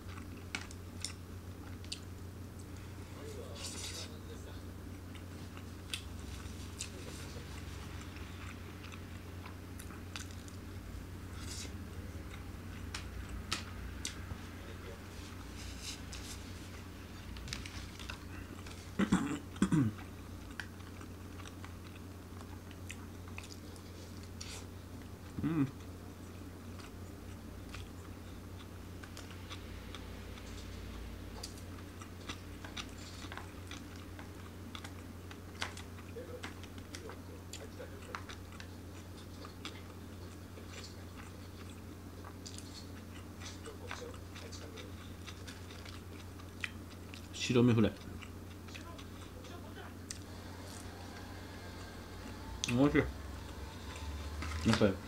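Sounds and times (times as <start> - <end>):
low steady hum: 0.0 - 55.0
man chewing food: 0.0 - 55.0.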